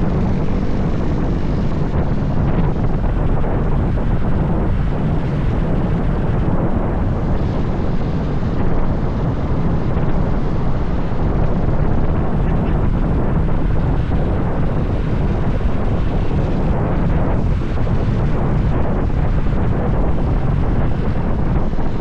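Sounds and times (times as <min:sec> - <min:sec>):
motorbike engine rumble: 0:00.0 - 0:22.0
wind rushing on microphone: 0:00.0 - 0:22.0.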